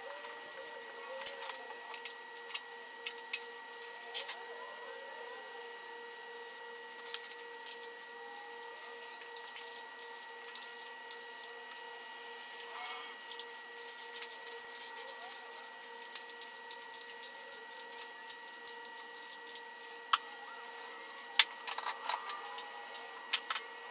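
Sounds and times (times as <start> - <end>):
steady high-pitched hum: 0.0 - 23.9.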